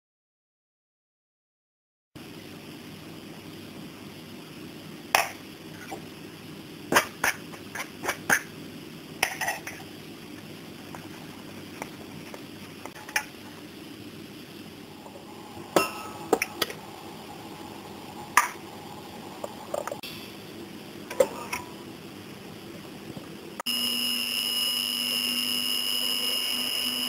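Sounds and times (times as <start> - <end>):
low steady hum: 2.2 - 27.0.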